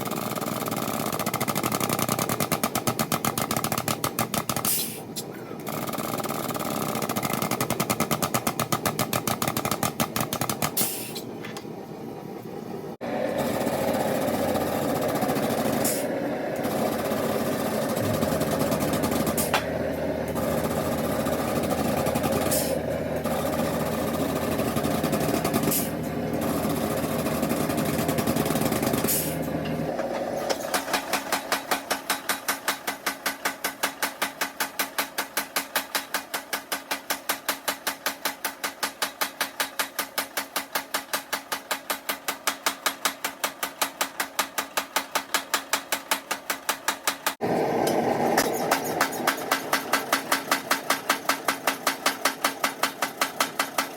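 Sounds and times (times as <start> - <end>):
fast mechanical hammering: 0.0 - 11.3, 13.3 - 53.9
machine running steadily: 0.0 - 53.9.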